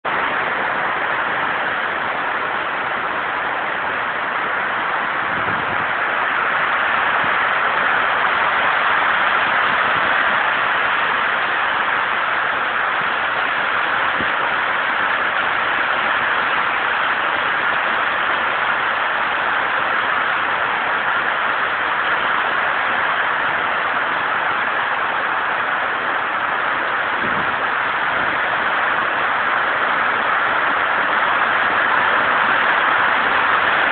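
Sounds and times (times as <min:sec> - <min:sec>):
heavy rain on carport roof: 0:00.0 - 0:33.9.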